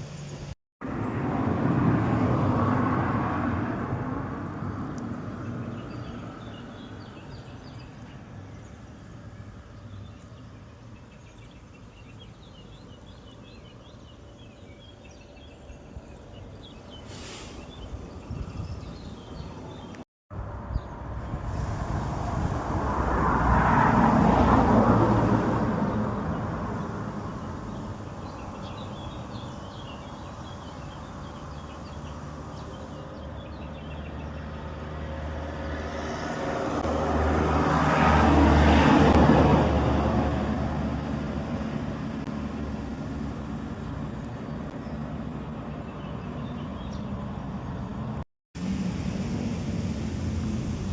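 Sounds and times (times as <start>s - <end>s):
low traffic rumble: 0.0s - 50.9s
vehicles passing: 0.0s - 50.9s.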